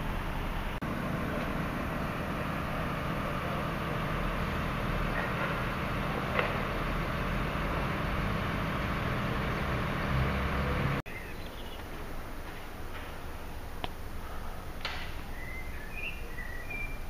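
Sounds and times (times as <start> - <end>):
heavy machinery idling: 0.0 - 15.3.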